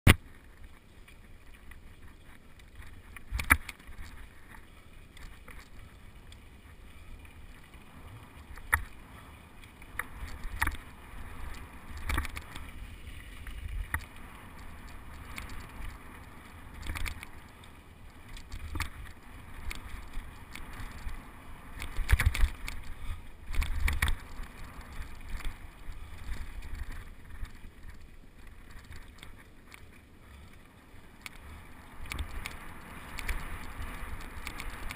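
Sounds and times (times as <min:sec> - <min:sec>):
bike tyres on dirt: 0:00.1 - 0:34.9.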